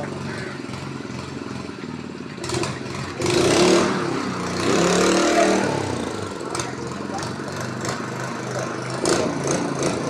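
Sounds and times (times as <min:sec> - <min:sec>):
engine surging: 0:00.0 - 0:10.0.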